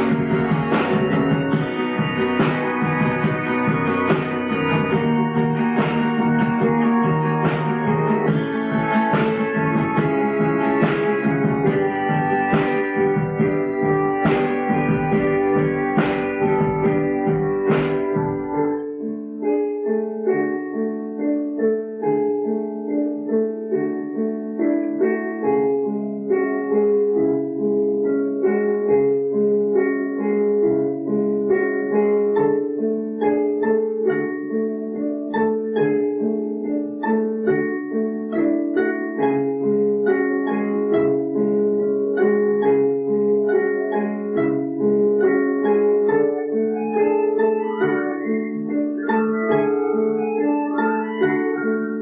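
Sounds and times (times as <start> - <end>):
plucked string instrument arpeggio: 0.0 - 20.3, 24.9 - 52.0.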